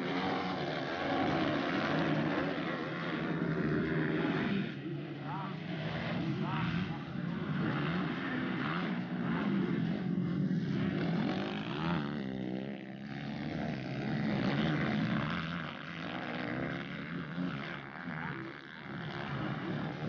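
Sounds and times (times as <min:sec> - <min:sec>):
motocross bike engines racing: 0:00.0 - 0:20.0.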